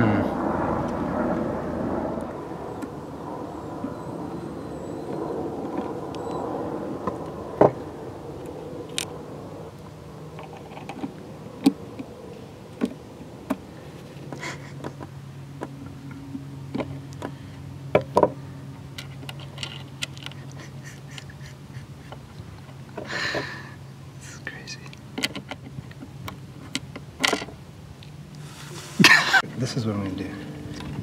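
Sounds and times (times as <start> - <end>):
low engine hum: 0.0 - 31.0.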